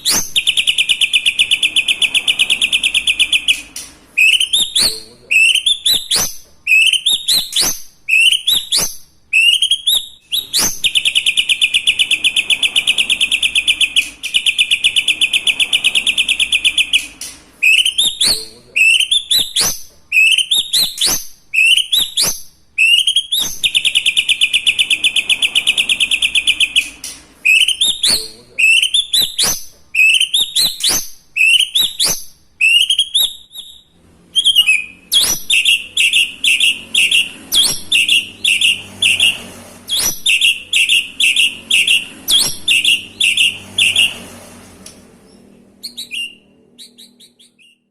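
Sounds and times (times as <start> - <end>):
bird singing with mimicked calls: 0.0 - 44.2, 45.8 - 47.9.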